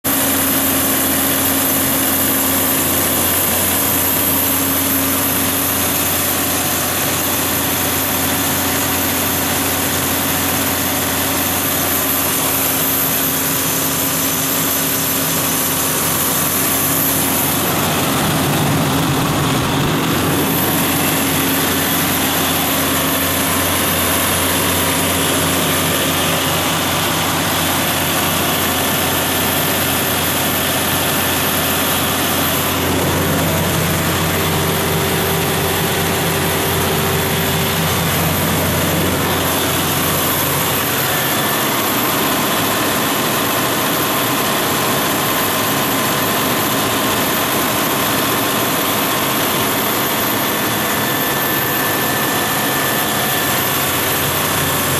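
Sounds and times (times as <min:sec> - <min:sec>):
diesel generator engine drone: 0:00.1 - 0:54.9.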